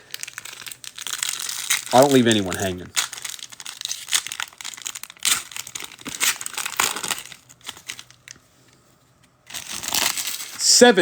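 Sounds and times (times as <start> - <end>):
foil wrapper crinkling and tearing: 0.0 - 8.4, 9.5 - 10.8.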